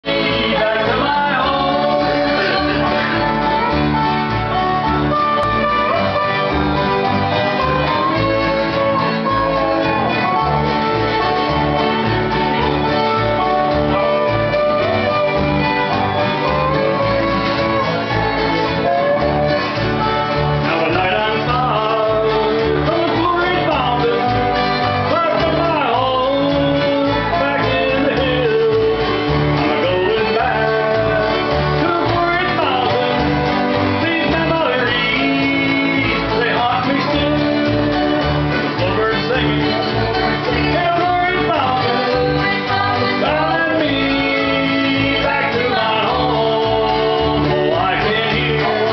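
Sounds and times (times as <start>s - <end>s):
man singing: 0.0s - 17.1s, 20.2s - 48.9s
bluegrass band playing: 0.0s - 48.9s.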